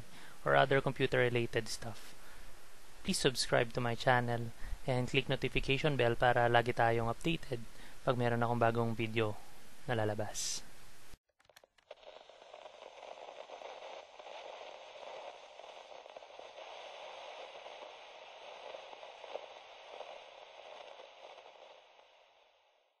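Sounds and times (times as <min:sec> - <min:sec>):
crackling static hiss: 0:00.0 - 0:11.2, 0:11.8 - 0:23.0.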